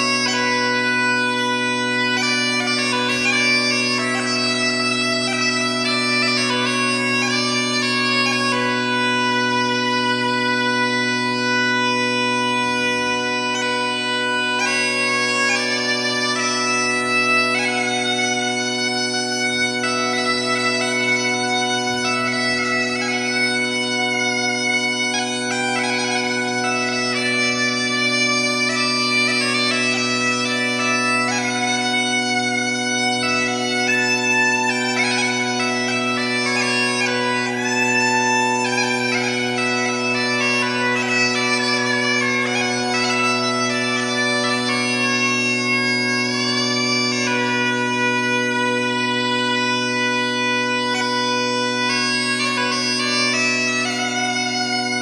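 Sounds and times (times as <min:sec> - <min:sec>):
bagpipe chanter melody: 0:00.0 - 0:55.0
bagpipe drones: 0:00.0 - 0:55.0.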